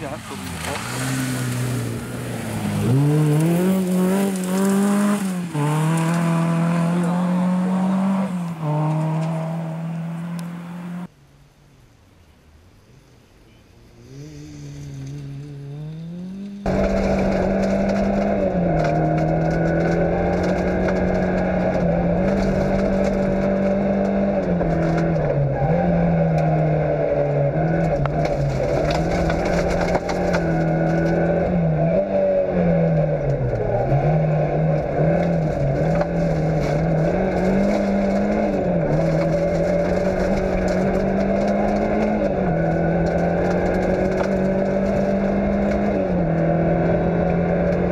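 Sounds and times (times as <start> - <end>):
rally car engine revving: 0.0 - 11.1, 13.8 - 47.9
gravel and tyre noise: 0.0 - 47.9.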